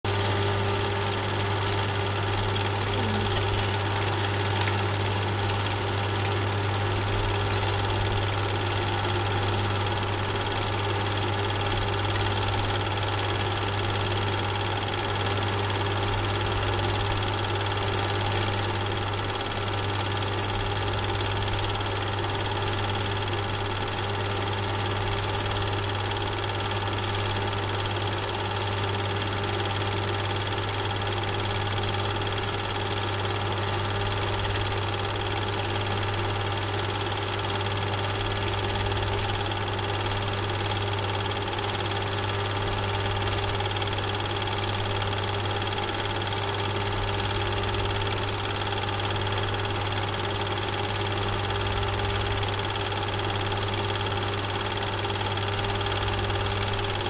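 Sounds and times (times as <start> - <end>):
film projector humming and whirring: 0.0 - 57.0.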